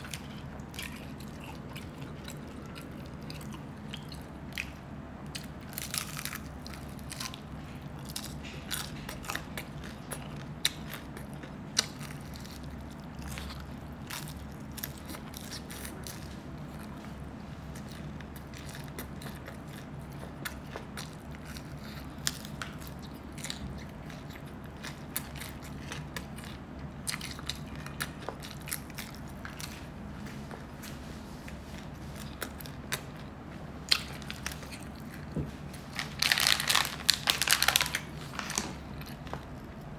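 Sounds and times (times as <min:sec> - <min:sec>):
biting and chewing: 0:00.0 - 0:39.9
steady low hum: 0:00.0 - 0:39.9.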